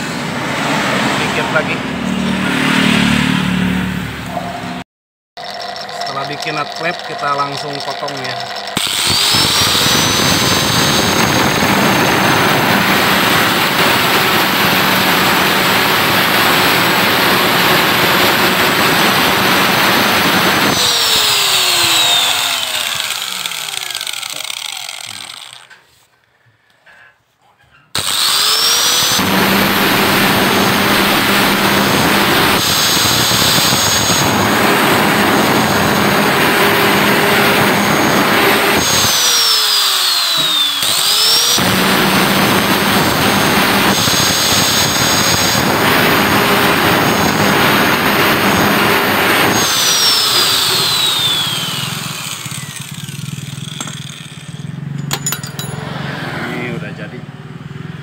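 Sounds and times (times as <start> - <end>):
angle grinder grinding steel: 5.4 - 26.0, 28.0 - 56.2.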